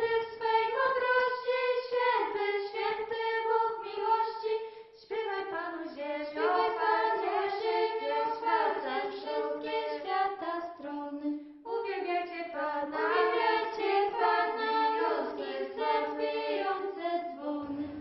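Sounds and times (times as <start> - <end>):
a cappella choir singing a hymn: 0.0 - 18.0.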